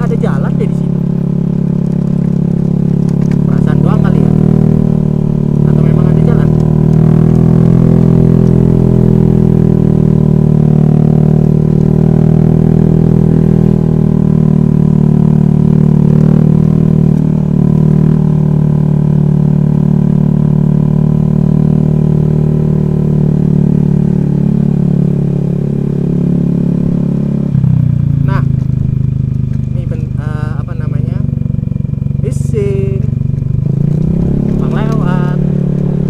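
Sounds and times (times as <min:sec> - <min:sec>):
scooter engine droning: 0:00.0 - 0:36.0.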